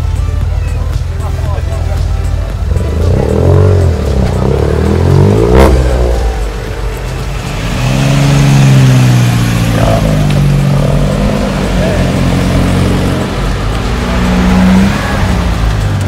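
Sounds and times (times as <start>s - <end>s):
cars driving slowly past: 0.0s - 16.0s.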